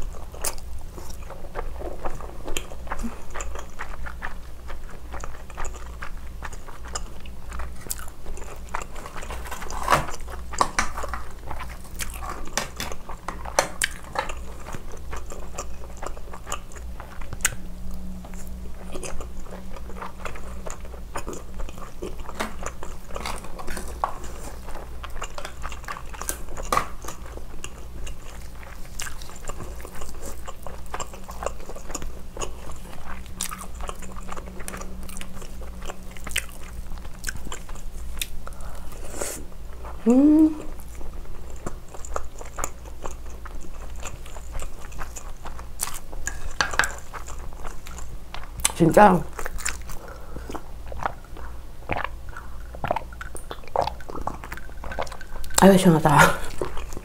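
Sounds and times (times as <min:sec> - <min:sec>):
close-up chewing and biting: 0:00.0 - 0:39.1, 0:40.6 - 0:57.0.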